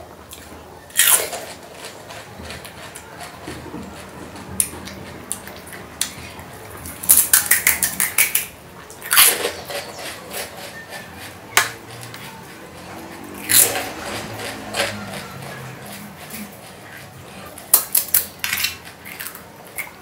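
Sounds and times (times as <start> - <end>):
crunching crisp shell: 0.3 - 12.5, 13.1 - 20.0
wet slurping and chewing: 0.3 - 17.7.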